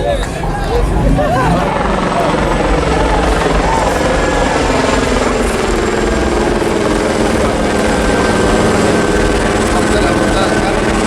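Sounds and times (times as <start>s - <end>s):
loud mechanical drone pulsing: 0.0s - 11.0s.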